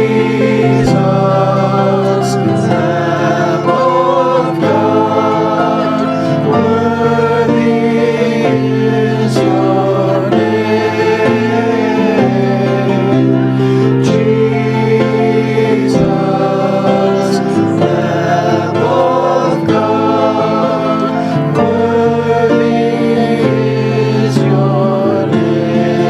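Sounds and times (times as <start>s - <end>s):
group singing worship song: 0.0s - 26.0s
instrumental accompaniment: 0.0s - 26.0s.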